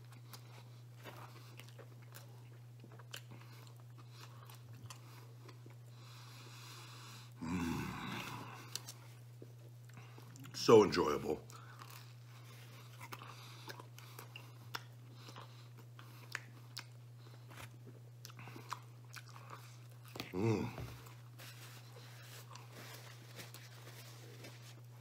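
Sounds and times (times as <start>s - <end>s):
man chewing crunchy crust: 0.0s - 10.6s, 11.5s - 25.0s.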